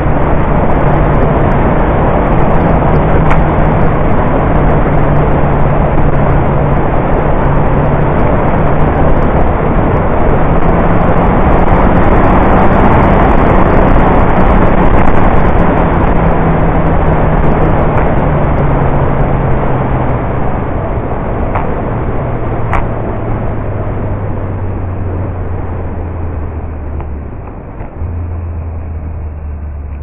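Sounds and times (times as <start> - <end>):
motorcycle engine hum: 0.0 - 30.0
wind rushing over microphone: 0.0 - 30.0.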